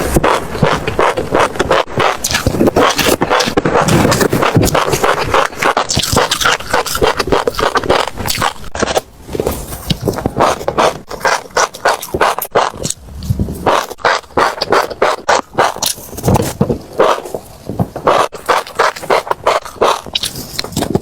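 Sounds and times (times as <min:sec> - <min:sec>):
seeds crunching while chewing: 0:00.0 - 0:21.0.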